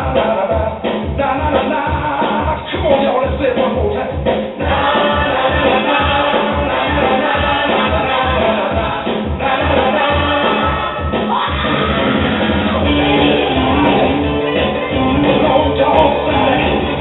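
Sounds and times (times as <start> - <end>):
person singing: 0.0 - 17.0
steady drum beat: 0.0 - 17.0.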